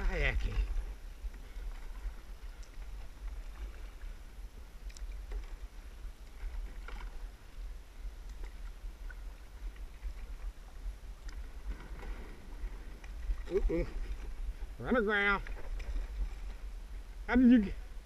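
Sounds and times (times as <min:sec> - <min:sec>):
paddle splashing in water: 0:00.0 - 0:16.8.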